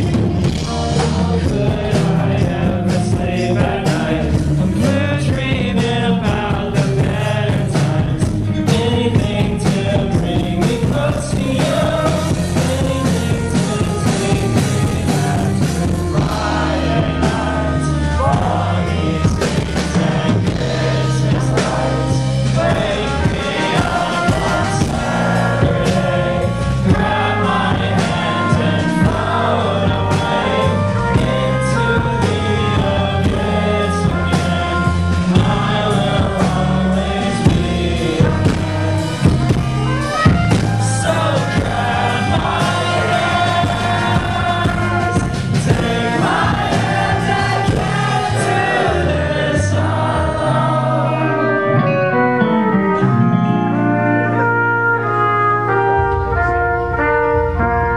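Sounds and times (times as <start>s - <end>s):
drum hits: 0.0s - 50.6s
person singing lead vocal: 0.0s - 54.5s
live rock band playing: 0.0s - 57.9s.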